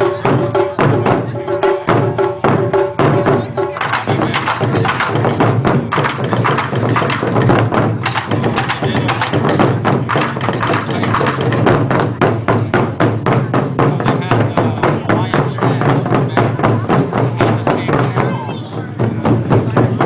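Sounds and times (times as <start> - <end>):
taiko drums beating fast: 0.0 - 20.0.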